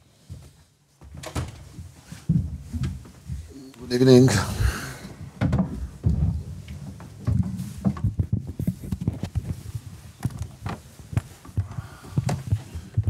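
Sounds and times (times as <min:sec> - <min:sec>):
microphone handling clicks and thuds: 0:01.0 - 0:03.5, 0:04.6 - 0:13.0.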